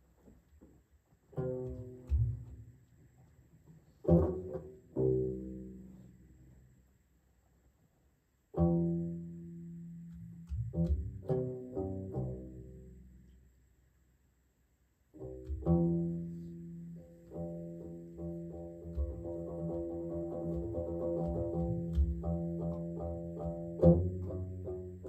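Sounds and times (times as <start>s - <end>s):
lute plucked slowly: 0.0s - 6.9s, 8.5s - 13.6s, 15.1s - 25.0s.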